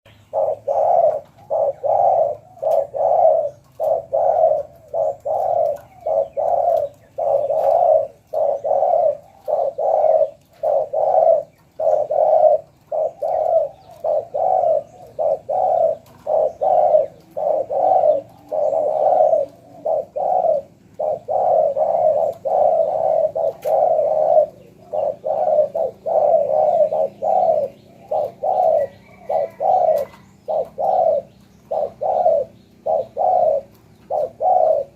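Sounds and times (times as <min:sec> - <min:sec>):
dove cooing: 0:00.1 - 0:34.9.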